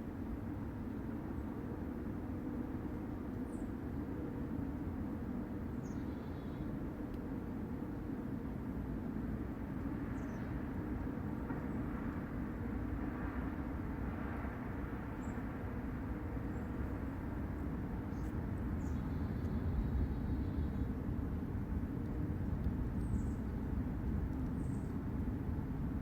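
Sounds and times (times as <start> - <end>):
low noisy rumble from sky: 0.0 - 26.0.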